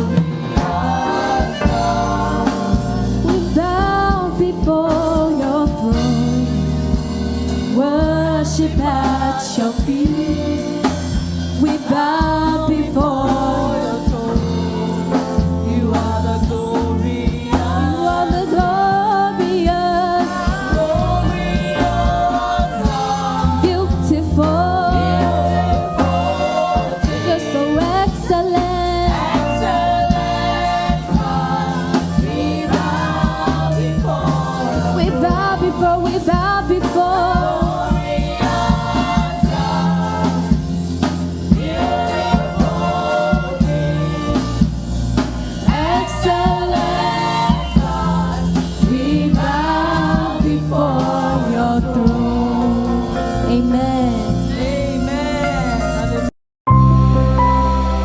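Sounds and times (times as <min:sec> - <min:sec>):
group singing gospel song: 0:00.0 - 0:56.3
band accompaniment with beat: 0:00.0 - 0:58.0.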